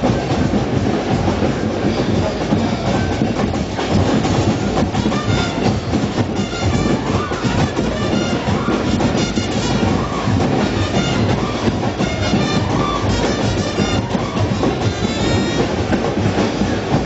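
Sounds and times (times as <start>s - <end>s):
street band drums and percussion: 0.0s - 17.0s.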